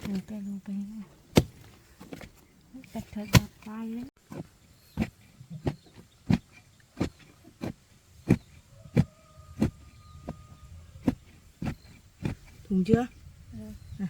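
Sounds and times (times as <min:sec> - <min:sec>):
hand tool chopping tree stump: 0:01.2 - 0:02.4, 0:03.0 - 0:13.2.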